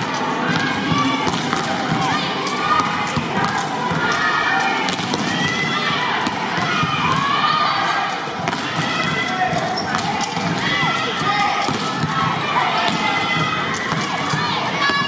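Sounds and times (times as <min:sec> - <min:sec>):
balls being struck: 0:00.0 - 0:05.6, 0:08.4 - 0:15.0.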